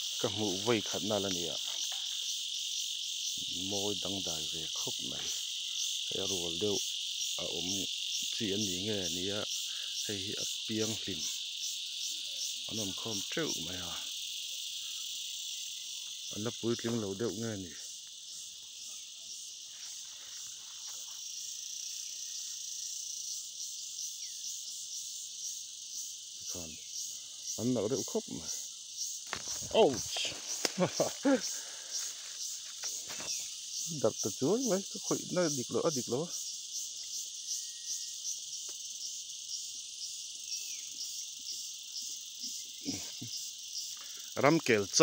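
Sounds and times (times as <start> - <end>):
chorus of forest insects: 0.0 - 45.0.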